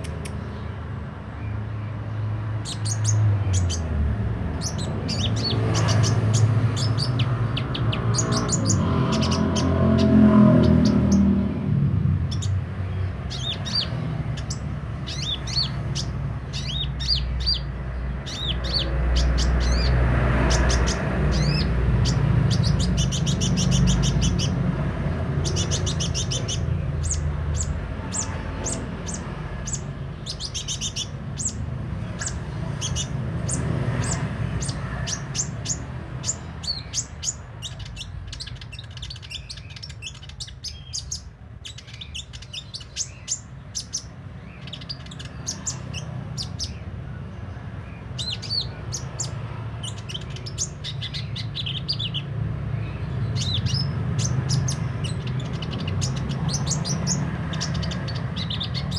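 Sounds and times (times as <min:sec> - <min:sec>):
sunbird singing: 0:00.0 - 0:58.9.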